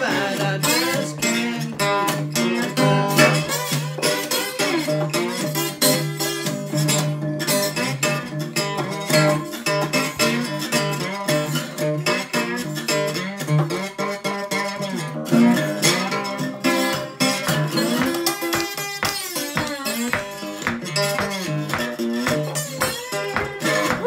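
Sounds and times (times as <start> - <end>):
slide acoustic guitar blues: 0.0 - 24.0.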